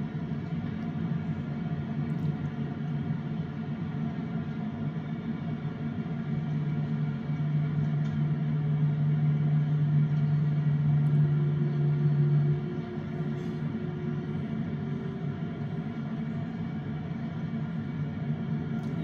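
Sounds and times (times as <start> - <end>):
jet engine and airflow drone: 0.0 - 19.0
low hum: 0.0 - 19.0.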